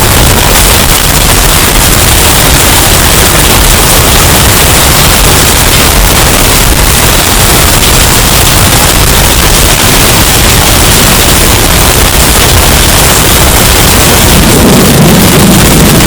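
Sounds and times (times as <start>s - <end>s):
distorted hurricane wind: 0.0s - 16.0s.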